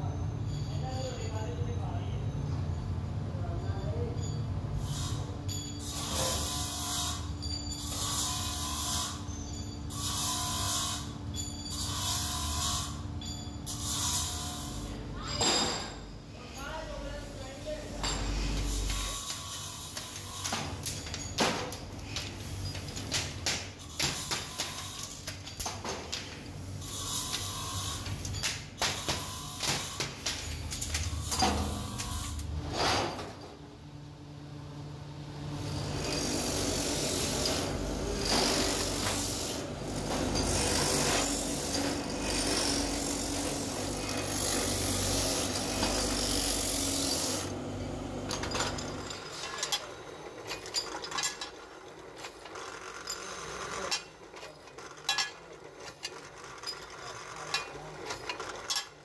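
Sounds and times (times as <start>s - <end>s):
workshop machine humming and hissing: 0.0s - 59.0s
metal parts clicking and clattering: 4.2s - 33.6s, 37.2s - 59.0s.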